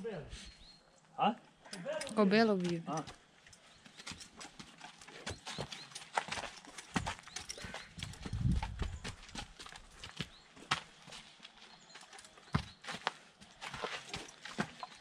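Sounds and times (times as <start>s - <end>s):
horse hooves clopping: 1.8s - 15.0s.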